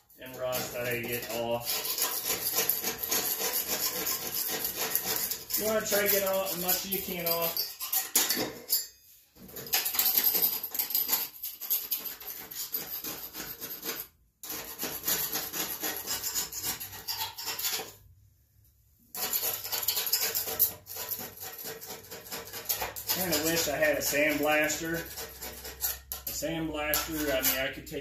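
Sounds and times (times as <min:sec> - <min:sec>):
scraping on metal: 0:00.0 - 0:18.0, 0:19.1 - 0:28.0.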